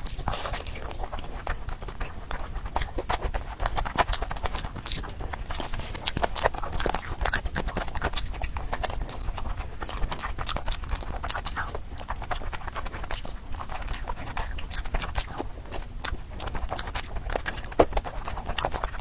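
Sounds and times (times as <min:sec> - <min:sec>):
low steady hum: 0:00.0 - 0:19.0
person chewing crunchy food: 0:00.0 - 0:19.0.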